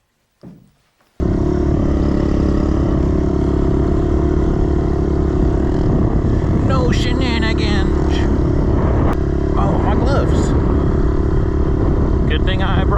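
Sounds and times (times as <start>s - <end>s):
pit bike engine running: 1.2s - 12.9s.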